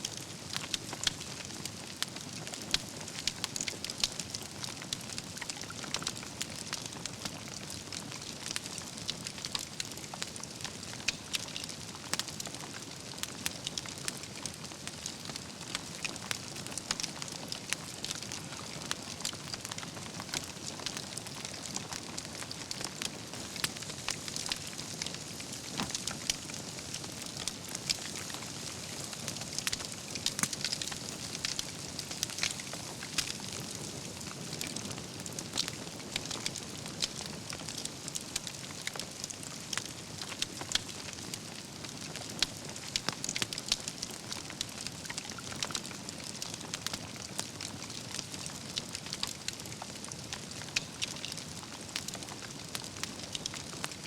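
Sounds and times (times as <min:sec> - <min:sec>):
logs crackling and popping: 0:00.0 - 0:54.0
wood fire hissing: 0:00.0 - 0:54.0.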